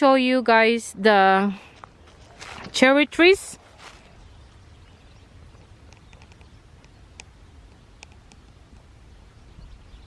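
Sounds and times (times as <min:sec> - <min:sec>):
small birds chirping: 0:01.1 - 0:10.0
wind rumble on microphone: 0:01.7 - 0:10.0.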